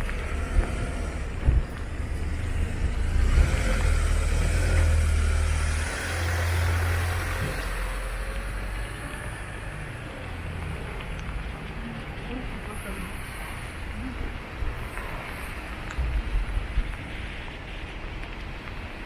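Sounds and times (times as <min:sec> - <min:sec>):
tyres hissing on wet road: 0:00.0 - 0:19.0.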